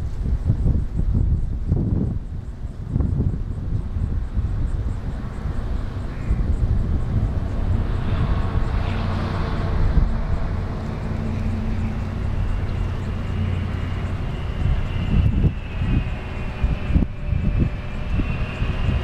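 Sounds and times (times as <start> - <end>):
distant jet engine rumble: 0.0 - 19.0
high fan whine: 0.0 - 19.0.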